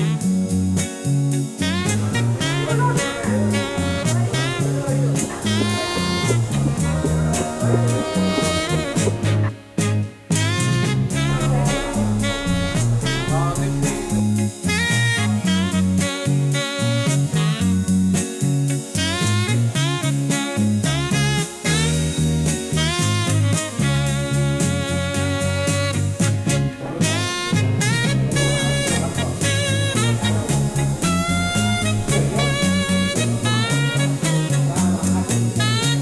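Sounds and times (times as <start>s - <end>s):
upbeat swing jazz with horns: 0.0s - 36.0s.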